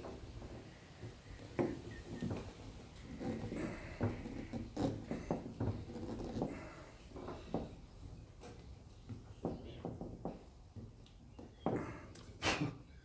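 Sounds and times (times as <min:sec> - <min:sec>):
wooden knocks and scraping: 0:00.0 - 0:11.9.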